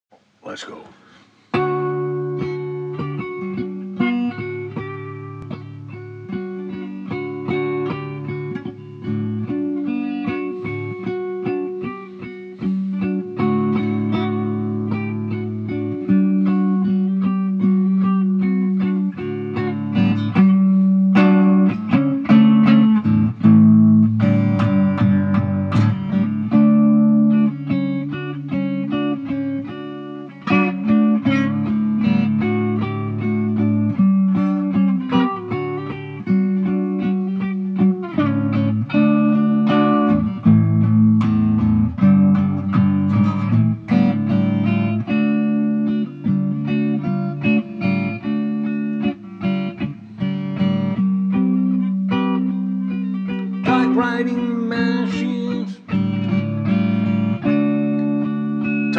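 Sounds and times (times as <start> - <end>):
electric guitar picked notes: 0.2 - 58.9.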